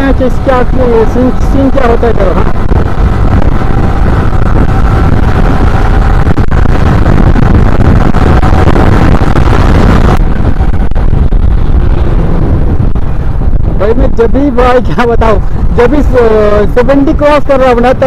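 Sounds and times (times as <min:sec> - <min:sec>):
motorcycle engine: 0:00.0 - 0:18.0
wind buffeting microphone: 0:00.0 - 0:18.0.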